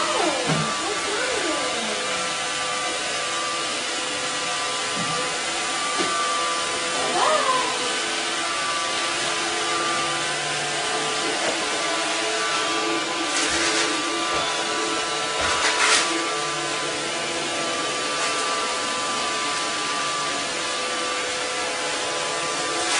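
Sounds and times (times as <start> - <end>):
robot vacuum cleaner whirring: 0.0 - 22.9.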